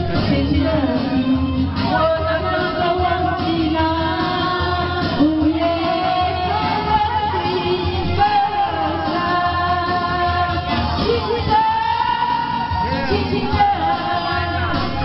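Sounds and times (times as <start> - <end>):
pop song with singer: 0.0 - 15.0.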